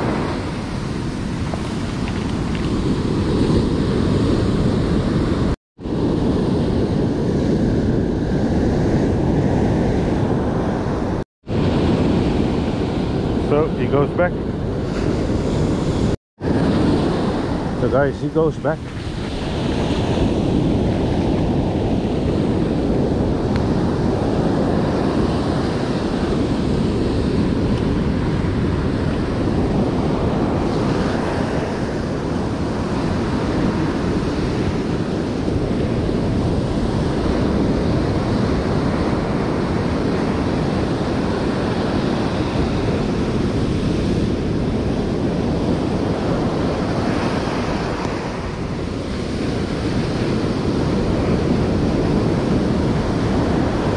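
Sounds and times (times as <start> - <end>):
ocean surf breaking on beach: 0.0 - 53.9
wind buffeting microphone: 0.0 - 53.9.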